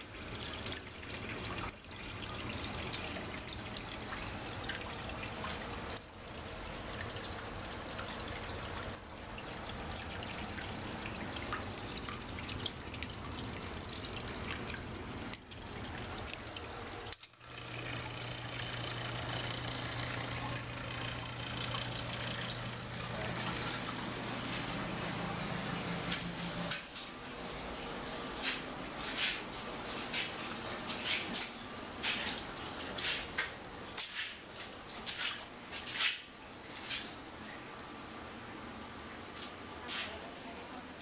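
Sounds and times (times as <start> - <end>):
water trickling and splashing: 0.0 - 41.0.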